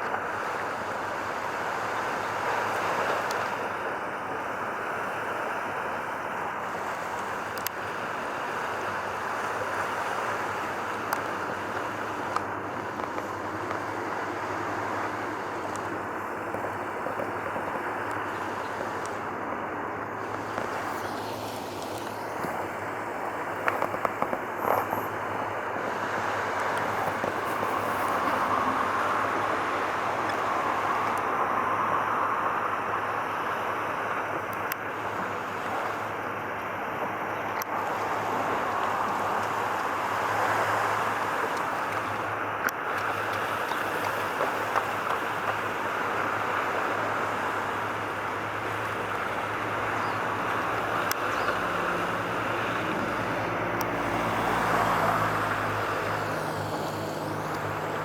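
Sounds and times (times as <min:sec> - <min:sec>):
constant low hum: 0:00.0 - 0:58.0
rushing outdoor background noise: 0:00.0 - 0:58.0.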